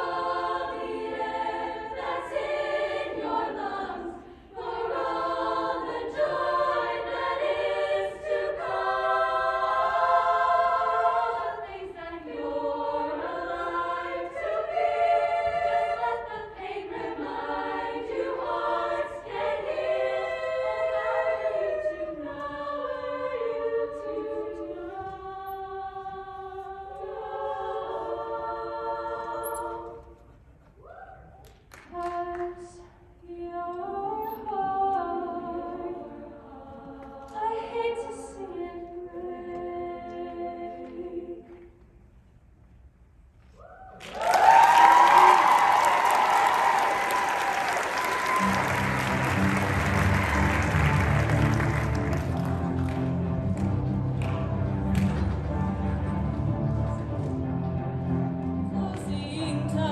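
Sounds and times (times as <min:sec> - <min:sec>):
choir singing in harmony: 0:00.0 - 0:30.4, 0:32.0 - 0:41.8, 0:44.0 - 0:59.9.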